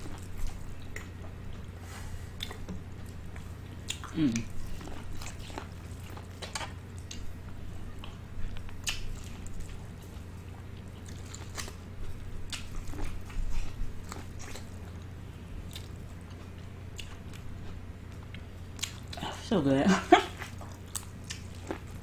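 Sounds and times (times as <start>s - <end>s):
chewing corn on the cob: 2.4s - 19.2s, 20.2s - 22.0s.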